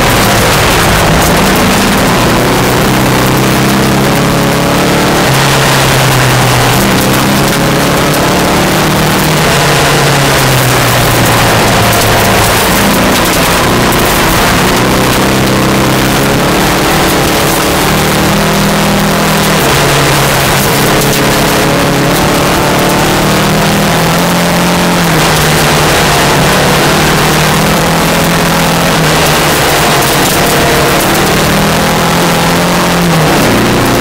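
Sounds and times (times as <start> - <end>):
rally car engine pulling hard: 0.0 - 34.0
tyres on gravel: 0.0 - 34.0.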